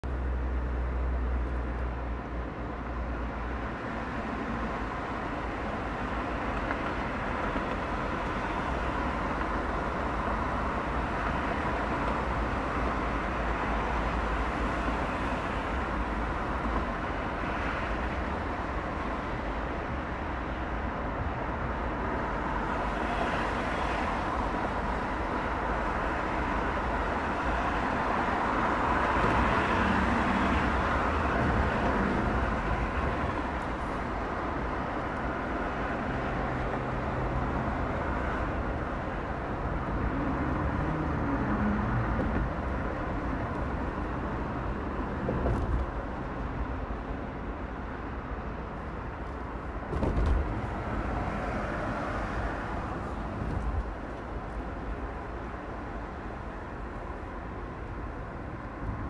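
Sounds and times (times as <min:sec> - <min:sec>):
road and traffic noise: 0:00.0 - 0:59.0.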